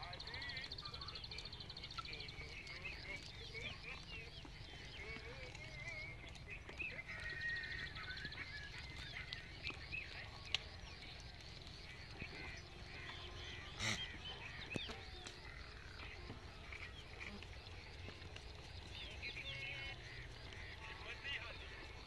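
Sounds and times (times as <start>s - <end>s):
bird trill: 0.0s - 22.0s
small birds chirping: 0.0s - 22.0s.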